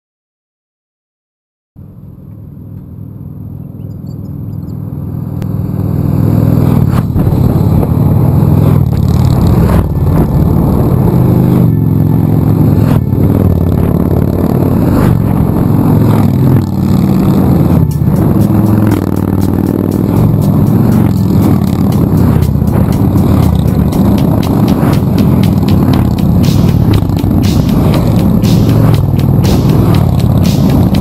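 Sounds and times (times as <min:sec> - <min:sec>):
motorcycle engines revving: 0:02.0 - 0:31.0.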